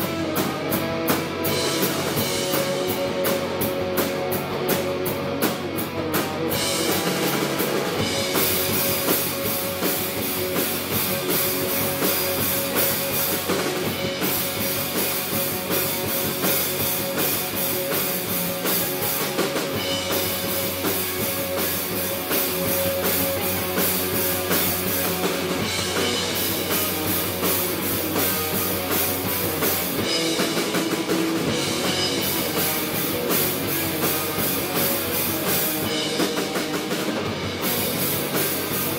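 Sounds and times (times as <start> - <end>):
drum kit with cymbals: 0.0 - 38.9
electric bass guitar: 0.0 - 38.9
electric guitars: 0.0 - 38.9.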